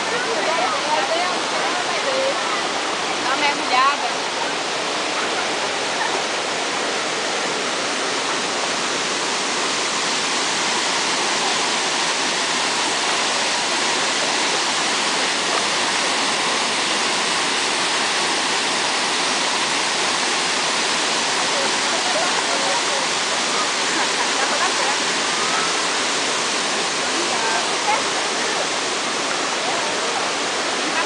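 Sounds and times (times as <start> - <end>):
river flowing over rocks: 0.0 - 31.0
waterfall rushing: 0.0 - 31.0.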